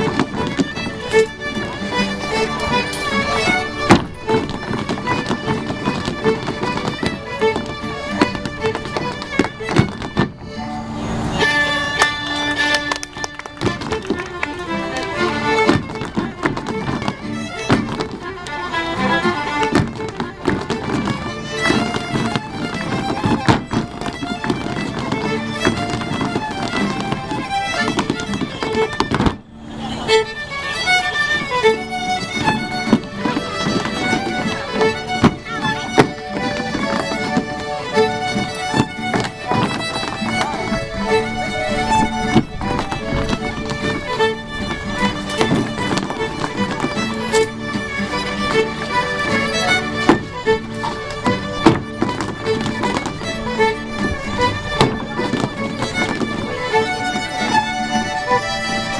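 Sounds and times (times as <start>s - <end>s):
shoes clicking on wooden board: 0.0s - 10.6s, 12.4s - 29.5s, 30.8s - 58.9s
fiddle folk dance tune: 0.0s - 58.9s.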